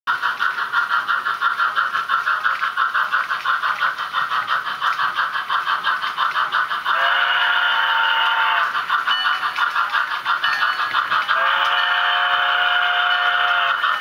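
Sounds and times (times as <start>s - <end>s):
model train steam chuffing: 0.1s - 14.0s.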